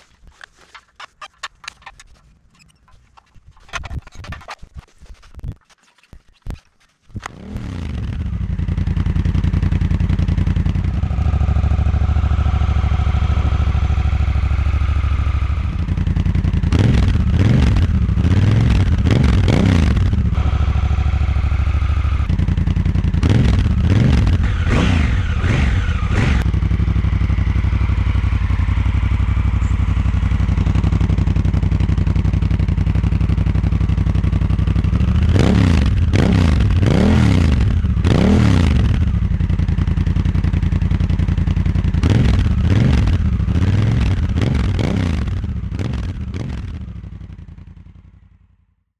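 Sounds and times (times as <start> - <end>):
motorcycle engine starting: 0.0 - 4.6, 7.1 - 48.7
motorcycle engine idling: 7.3 - 48.8.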